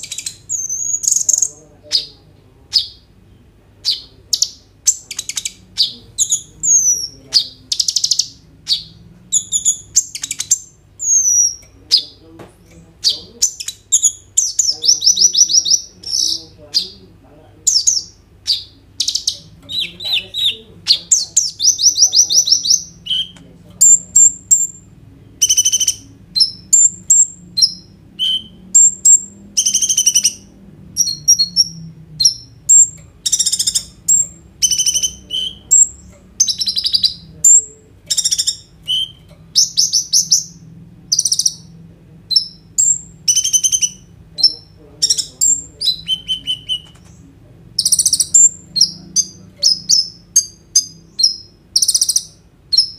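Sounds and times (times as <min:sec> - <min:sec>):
sunbird singing with rattling trills: 0:00.0 - 0:03.1, 0:03.8 - 0:17.0, 0:17.6 - 0:47.2, 0:47.8 - 0:52.9.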